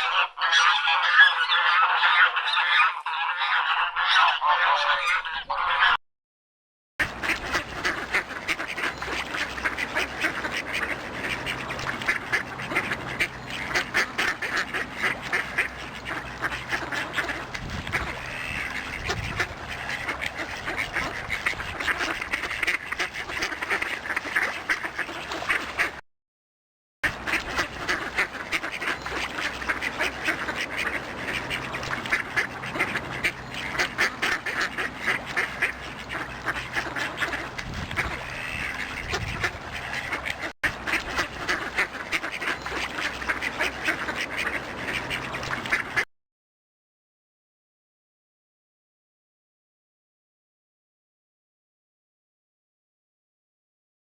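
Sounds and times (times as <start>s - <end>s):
ducks quacking: 0.0s - 6.0s, 7.0s - 26.0s, 27.0s - 46.1s.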